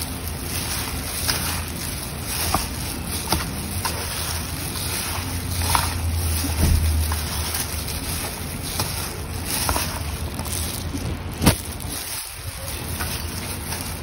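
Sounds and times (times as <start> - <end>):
noodles rustling and squishing: 0.0 - 14.0.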